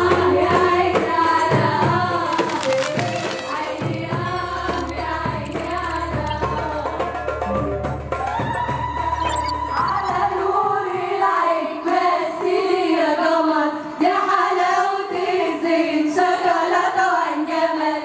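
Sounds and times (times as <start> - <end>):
women singing in chorus: 0.0 - 7.1, 8.4 - 18.0.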